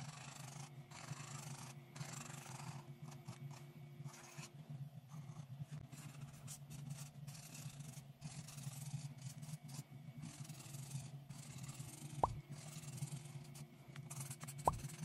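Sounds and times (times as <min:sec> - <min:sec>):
marker scratching on paper: 0:00.0 - 0:04.5, 0:05.7 - 0:15.0
steady low hum: 0:00.0 - 0:15.0.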